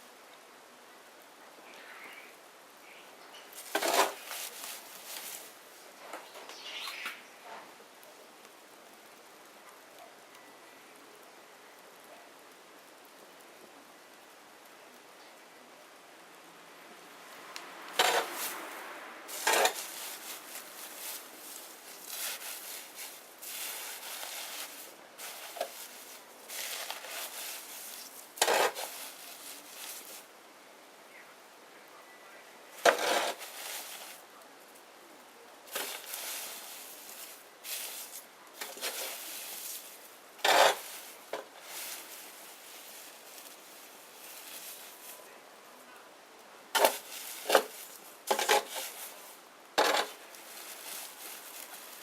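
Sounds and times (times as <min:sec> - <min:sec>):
bonfire crackling and hissing: 0:00.0 - 0:52.0.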